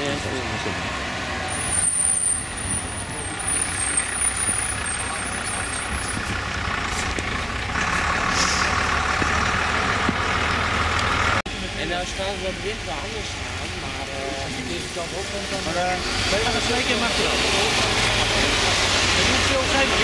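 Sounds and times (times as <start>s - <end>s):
truck engine: 0.0s - 20.0s
tyres on wet pavement: 0.0s - 20.0s.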